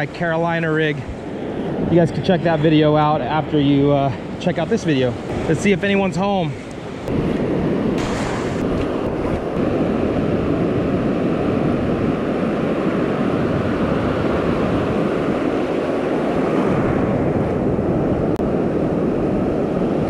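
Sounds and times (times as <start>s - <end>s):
ocean surf breaking: 0.0s - 20.0s
wind on microphone: 0.0s - 20.0s.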